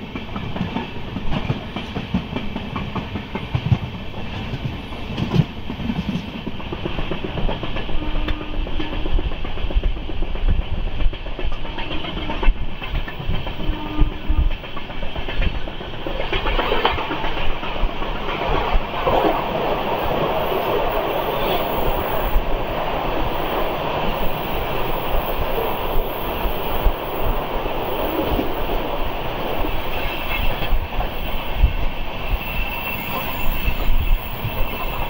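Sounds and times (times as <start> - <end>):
train wheels clattering over rail joints: 0.0 - 35.0.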